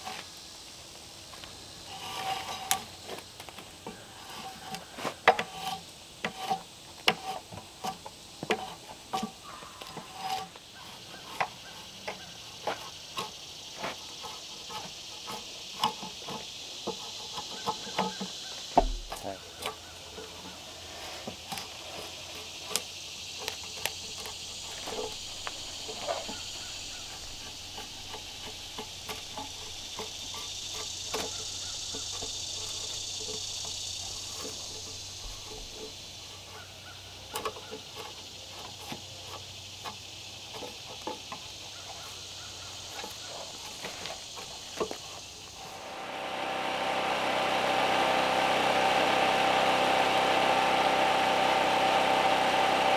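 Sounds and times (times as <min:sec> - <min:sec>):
insects chirring: 0:00.0 - 0:52.9
drawknife scraping bark: 0:01.8 - 0:03.3, 0:03.9 - 0:46.0.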